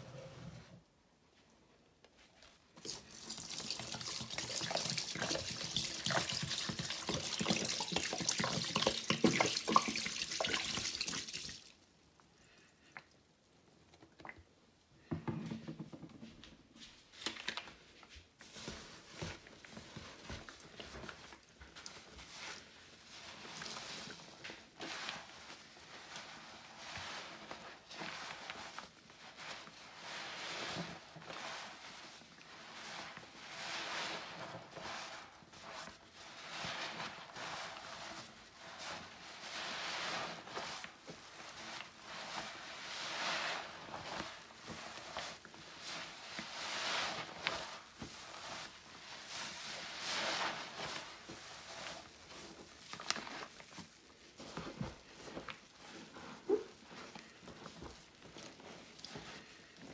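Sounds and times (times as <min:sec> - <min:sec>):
wet sponge squelching: 0:02.8 - 0:11.9, 0:18.4 - 0:59.9.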